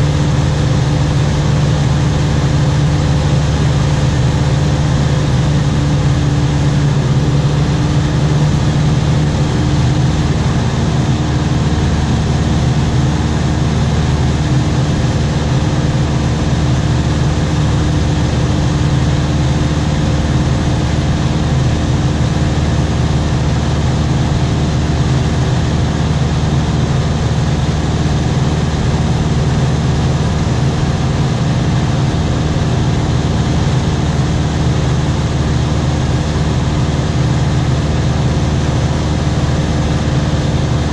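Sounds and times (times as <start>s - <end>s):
aircraft engine droning: 0.0s - 40.9s.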